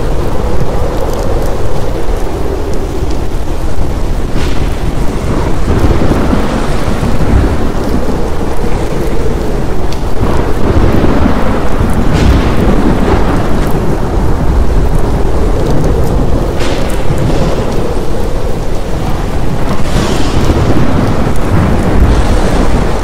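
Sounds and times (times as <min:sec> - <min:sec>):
heavy rain: 0:00.0 - 0:23.0
rolling thunder: 0:00.0 - 0:23.0
sharp thunder cracks: 0:00.0 - 0:23.0.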